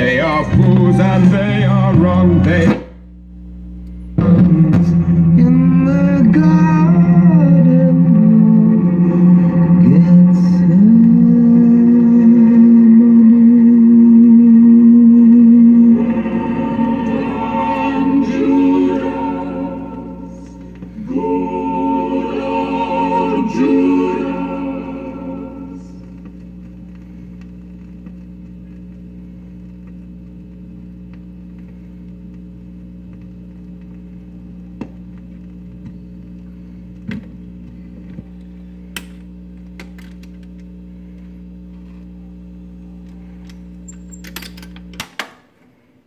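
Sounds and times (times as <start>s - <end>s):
record player humming: 0.0s - 46.0s.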